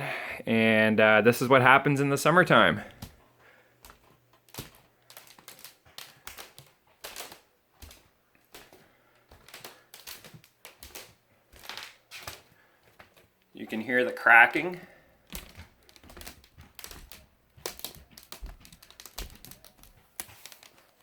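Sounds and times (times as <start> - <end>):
laminate floor crackling underfoot: 2.2 - 21.0.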